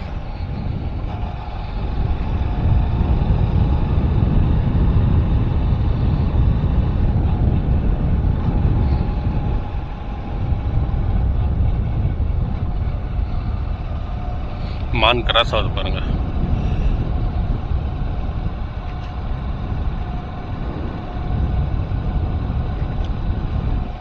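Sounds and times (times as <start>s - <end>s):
faint steady whine: 0.0s - 24.0s
road noise: 0.0s - 24.0s
vehicle engine running: 0.0s - 24.0s
wind noise on microphone: 0.0s - 24.0s.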